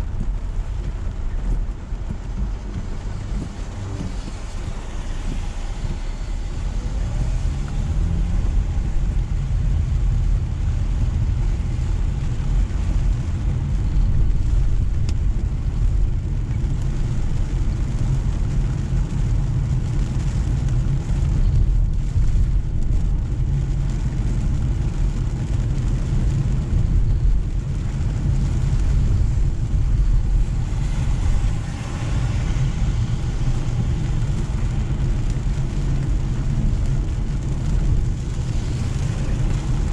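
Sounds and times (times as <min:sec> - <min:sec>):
car road and engine rumble: 0:00.0 - 0:39.9
tyre and rain hiss: 0:00.0 - 0:39.9.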